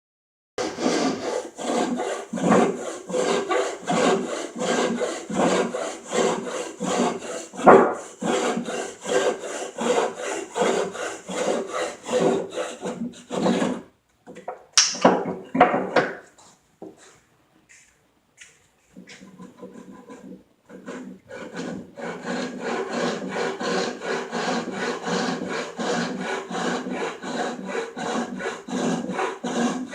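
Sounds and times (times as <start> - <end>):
hand saw cutting wood: 0.6 - 13.9, 18.9 - 29.9.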